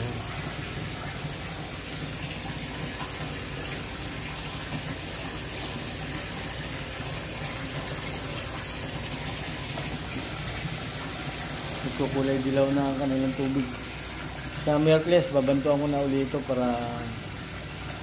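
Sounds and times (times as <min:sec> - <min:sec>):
low pump hum: 0:00.0 - 0:18.0
water rushing through pond: 0:00.0 - 0:18.0.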